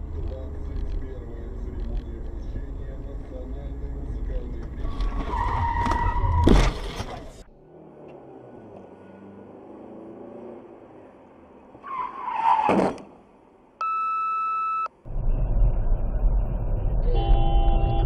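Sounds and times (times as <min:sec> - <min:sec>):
car road and engine noise: 0:00.0 - 0:13.8, 0:14.9 - 0:18.0
low rumble of road and wind: 0:00.0 - 0:13.8, 0:14.9 - 0:18.0.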